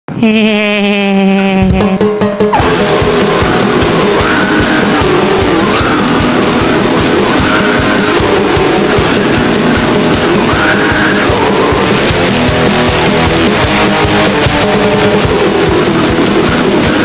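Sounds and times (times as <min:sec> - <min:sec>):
heavy metal music: 0:01.4 - 0:17.0.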